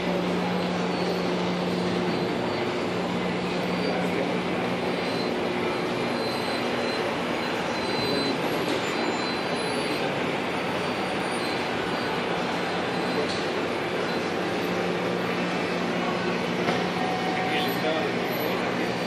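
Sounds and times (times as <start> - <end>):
machine whirring: 0.0 - 19.0.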